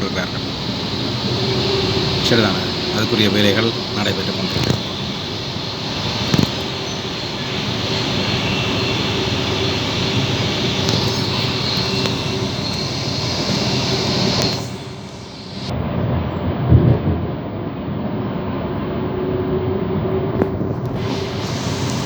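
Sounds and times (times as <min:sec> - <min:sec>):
train rumble and hiss: 0:00.0 - 0:22.0.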